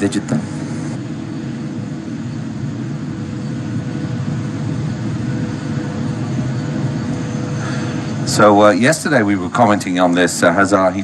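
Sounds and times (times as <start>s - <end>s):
distant jet engine rumble: 0.0s - 11.0s
faint jet whine: 0.0s - 11.0s.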